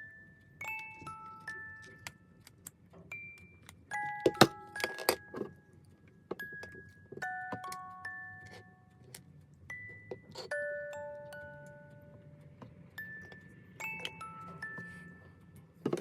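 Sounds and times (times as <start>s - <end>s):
chiming mallet music: 0.0s - 2.4s, 3.1s - 16.0s.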